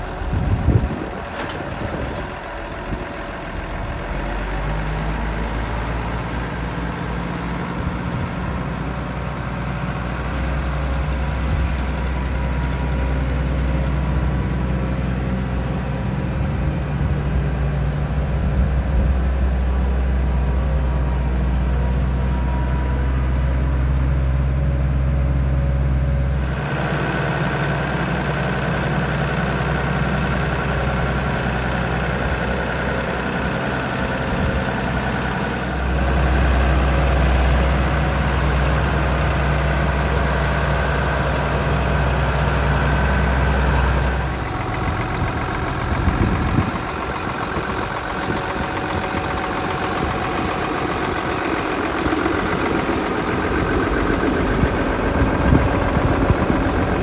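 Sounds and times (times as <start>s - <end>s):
diesel tractor engine idling: 0.0s - 57.0s.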